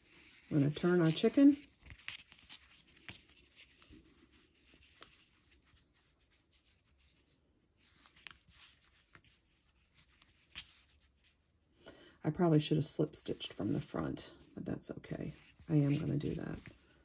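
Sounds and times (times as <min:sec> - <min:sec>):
faint rubbing of yarn: 0:00.0 - 0:11.6, 0:13.0 - 0:17.0.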